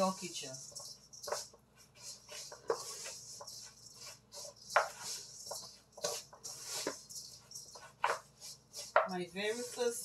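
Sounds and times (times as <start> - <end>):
dry mix scraped in metal bowl: 0.0 - 10.0.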